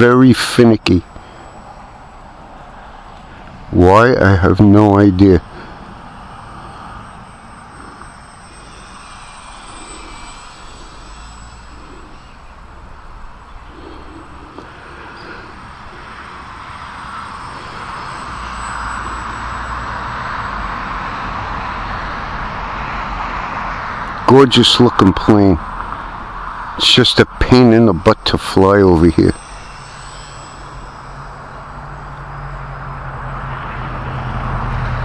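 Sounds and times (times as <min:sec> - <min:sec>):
model plane motor droning: 0:05.4 - 0:35.0.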